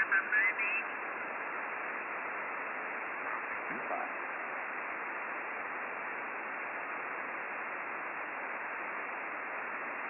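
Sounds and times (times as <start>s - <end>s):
radio receiver hiss: 0.0s - 10.0s.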